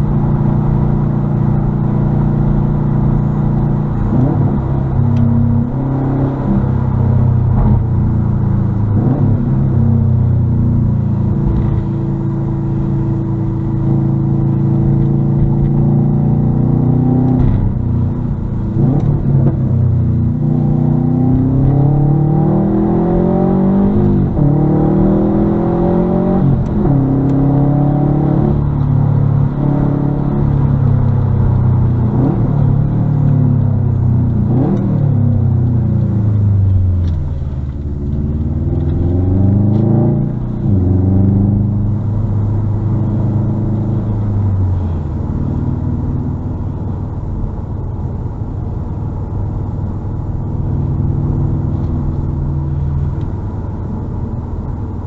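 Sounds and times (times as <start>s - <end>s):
car exhaust accelerating: 0.0s - 55.0s.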